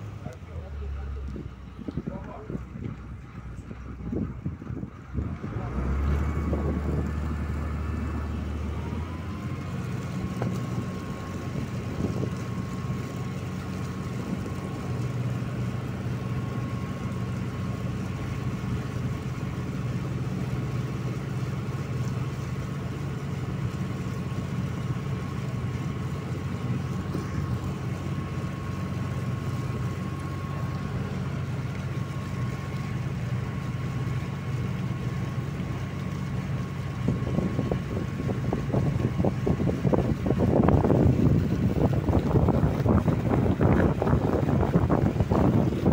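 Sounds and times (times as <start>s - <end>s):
motorboat engine droning: 0.0s - 45.9s.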